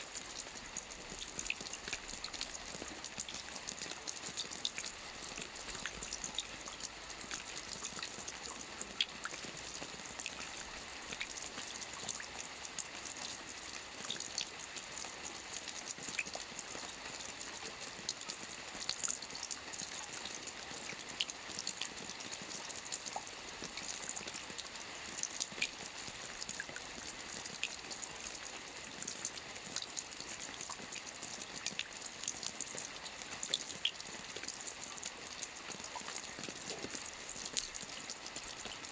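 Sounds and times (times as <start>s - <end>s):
raindrops ticking on a surface: 0.0s - 38.9s.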